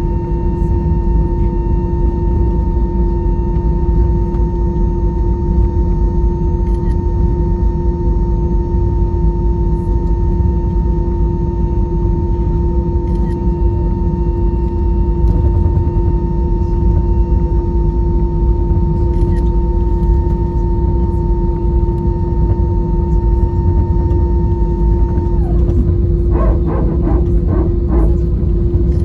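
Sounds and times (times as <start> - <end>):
airplane cabin engine rumble: 0.0 - 29.0
constant hum tone: 0.0 - 29.0.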